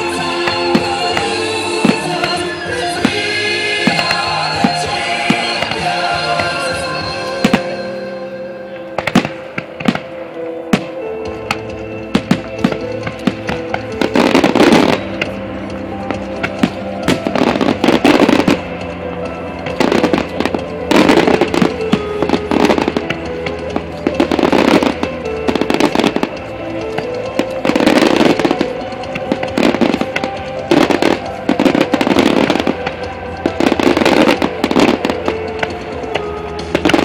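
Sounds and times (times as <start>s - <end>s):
fireworks bangs and crackles: 0.0s - 8.0s, 8.9s - 37.0s
music playing: 0.0s - 37.0s.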